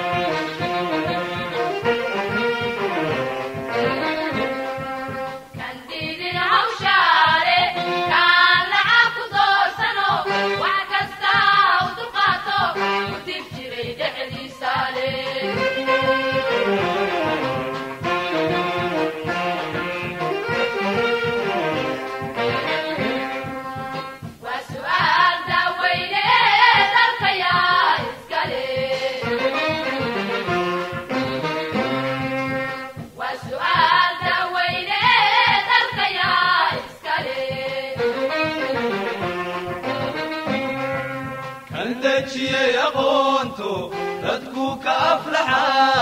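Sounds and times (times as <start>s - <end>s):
person singing over a beat: 0.0s - 46.0s.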